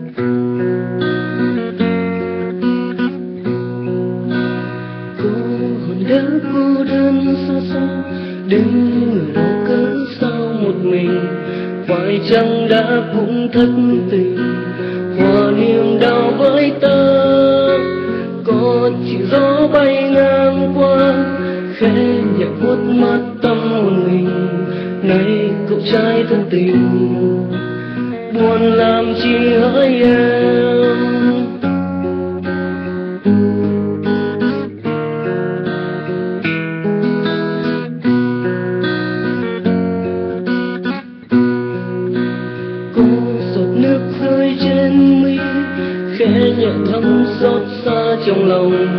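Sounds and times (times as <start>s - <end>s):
acoustic guitar chords: 0.0s - 48.9s.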